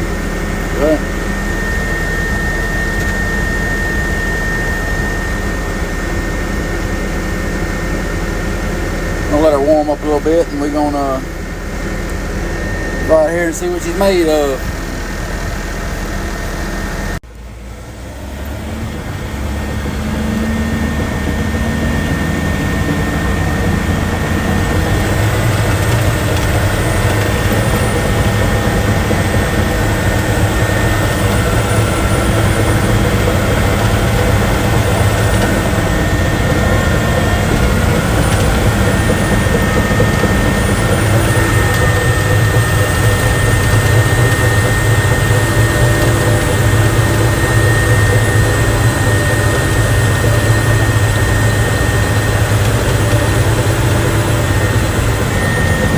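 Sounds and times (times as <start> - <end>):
bulldozer diesel engine running: 0.0 - 55.9
constant high whine: 0.0 - 55.9.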